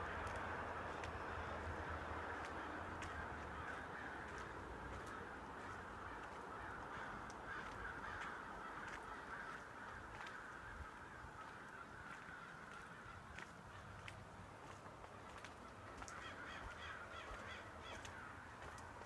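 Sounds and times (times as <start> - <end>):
flock of birds calling: 0.0 - 14.2, 15.2 - 19.0.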